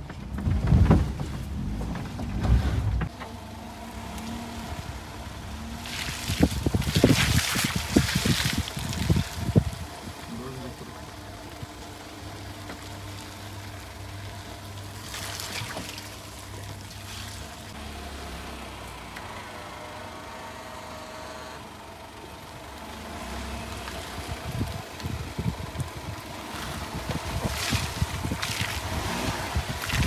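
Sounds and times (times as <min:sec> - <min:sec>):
small car engine running: 0:00.0 - 0:30.0.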